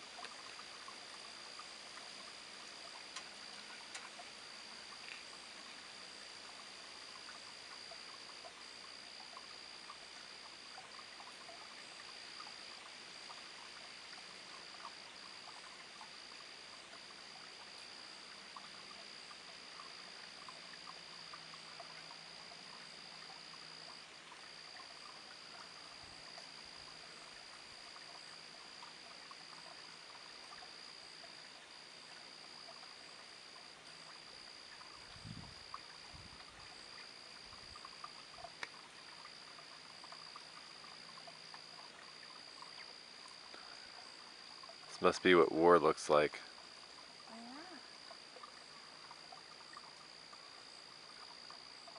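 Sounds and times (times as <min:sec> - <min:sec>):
high-pitched insect trill: 0:00.0 - 0:51.9
small frog calls: 0:00.0 - 0:51.9.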